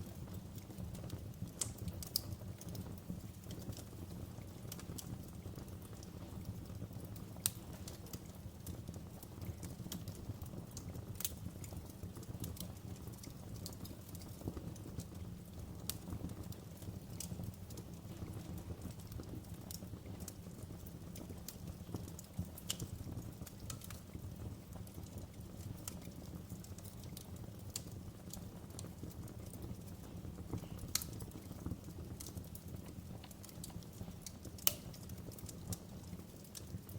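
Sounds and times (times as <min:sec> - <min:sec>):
low rumble of flames: 0:00.0 - 0:36.9
wood fire crackling: 0:00.0 - 0:36.9.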